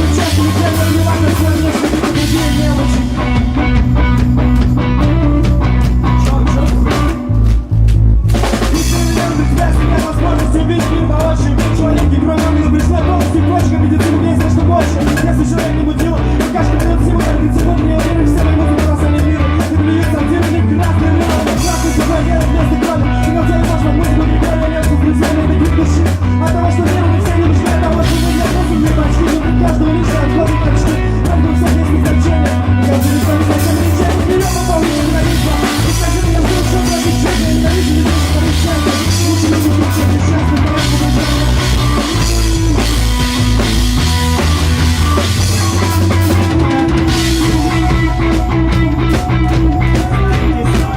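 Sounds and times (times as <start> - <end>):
person singing: 0.0 - 3.8, 4.8 - 7.4, 8.6 - 50.9
bass guitar: 0.0 - 50.9
drum kit: 0.0 - 50.9.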